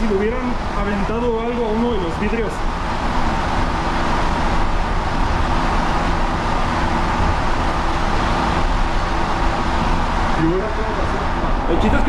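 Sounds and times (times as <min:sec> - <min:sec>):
motor hum: 0:00.0 - 0:12.0
train rolling rumble: 0:00.0 - 0:12.0.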